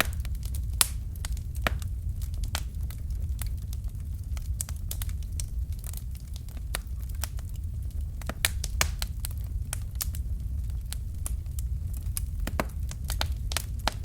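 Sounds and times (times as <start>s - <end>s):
low rumble of flames: 0.0s - 14.0s
sharp pops and snaps: 0.0s - 14.0s
wood fire crackling: 0.0s - 14.0s.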